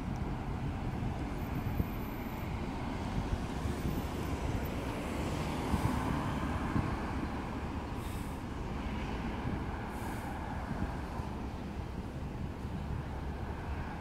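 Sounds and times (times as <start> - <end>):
road traffic rumble: 0.0 - 14.0
wind buffeting microphone: 0.0 - 14.0.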